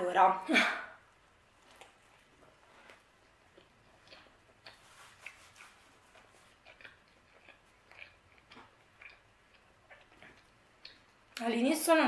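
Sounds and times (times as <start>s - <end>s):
faint chewing: 1.5s - 11.4s.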